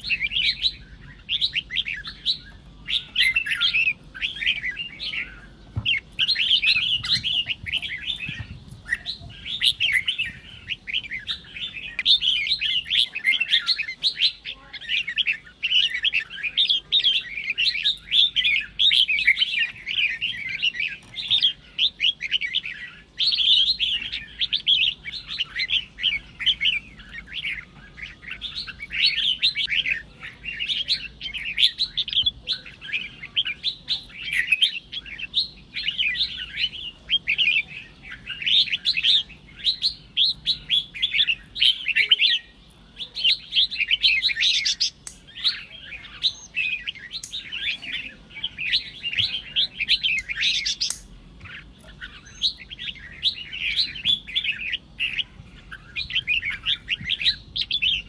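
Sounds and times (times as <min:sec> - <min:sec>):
bulbul chattering and calling: 0:00.0 - 0:58.0.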